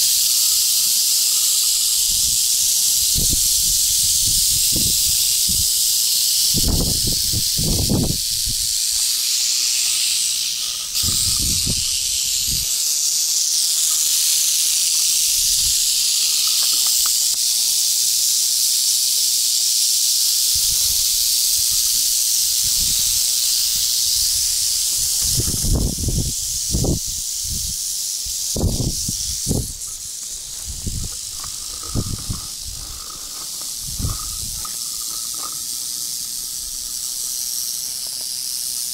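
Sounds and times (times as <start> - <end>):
rattlesnakes rattling: 0.0 - 38.9.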